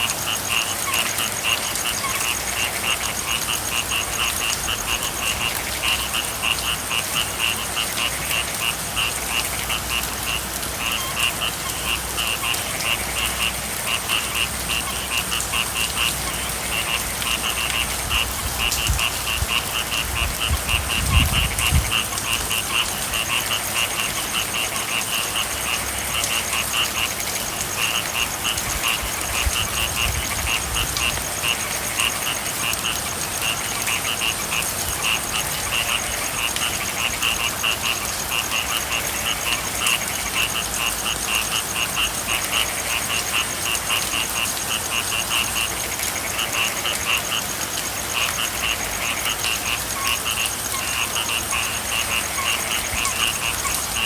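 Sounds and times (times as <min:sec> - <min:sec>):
frogs calling: 0:00.0 - 0:54.0
rain falling: 0:00.0 - 0:54.0.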